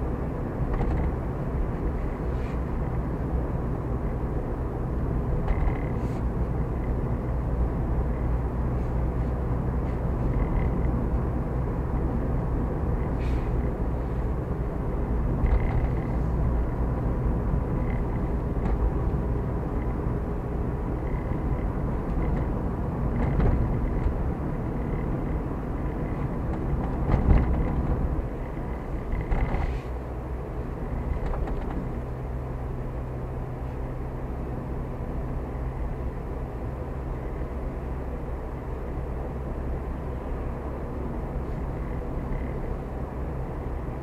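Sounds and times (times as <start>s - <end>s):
car engine and tyre rumble: 0.0s - 44.0s.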